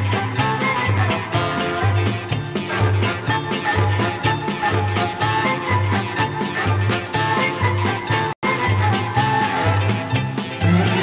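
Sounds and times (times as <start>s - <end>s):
music with bouncing bass line: 0.0s - 11.0s.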